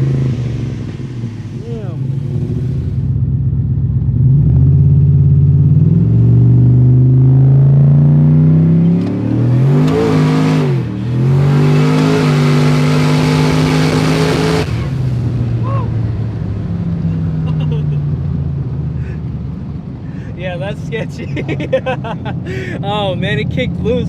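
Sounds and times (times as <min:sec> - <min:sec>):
truck engine accelerating hard: 0:00.0 - 0:24.0.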